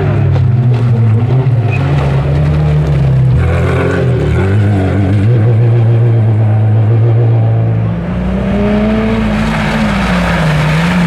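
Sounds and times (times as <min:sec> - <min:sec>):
racing car engine under load: 0:00.0 - 0:11.0.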